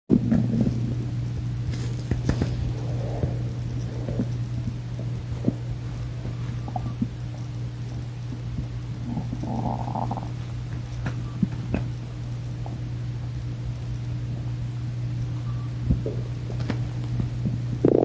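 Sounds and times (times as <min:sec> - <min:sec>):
stomach growling and gurgling: 0:00.1 - 0:12.9, 0:15.8 - 0:18.0
steady low hum: 0:00.1 - 0:18.0.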